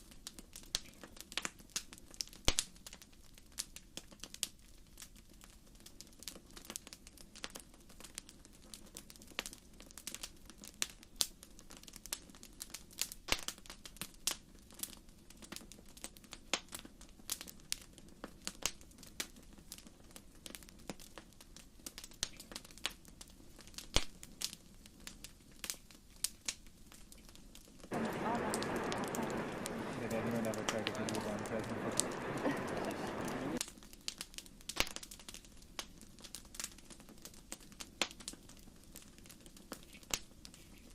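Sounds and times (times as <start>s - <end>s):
lava cracking and clicking: 0.0s - 40.9s.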